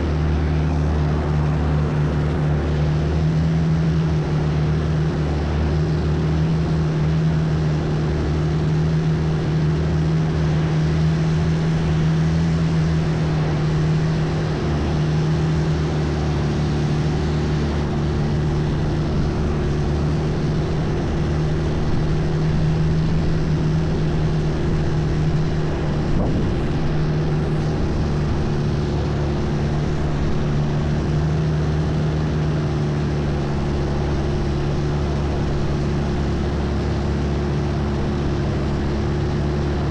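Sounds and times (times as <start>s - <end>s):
boat engine droning: 0.0s - 39.9s
constant rushing noise: 0.0s - 39.9s.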